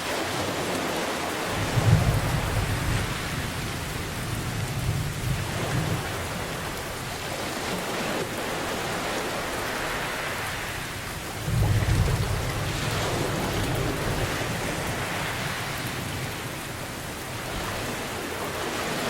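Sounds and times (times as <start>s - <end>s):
steady rain: 0.0s - 19.0s
thunder rumbling: 1.4s - 18.7s.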